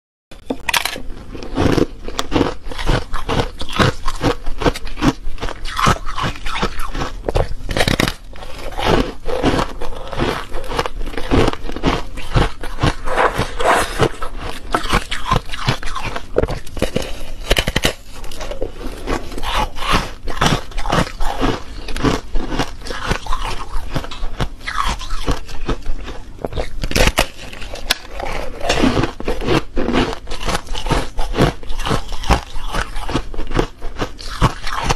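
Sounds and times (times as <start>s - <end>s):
teeth crunching foam ice: 0.4s - 34.9s.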